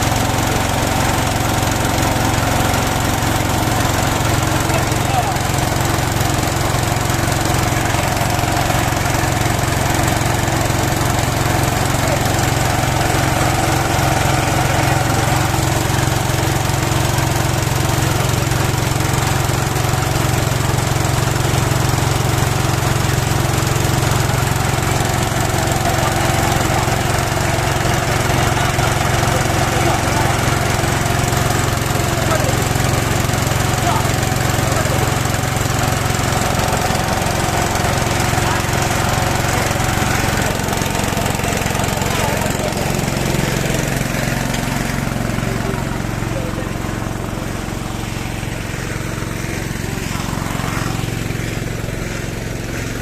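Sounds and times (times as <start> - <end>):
small pump engine running: 0.0 - 53.0.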